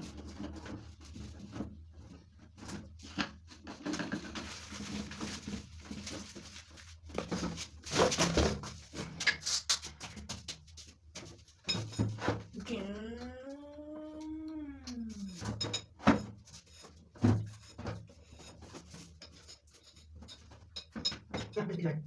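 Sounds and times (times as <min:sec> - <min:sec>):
objects knocking and scraping: 0:00.0 - 0:21.8.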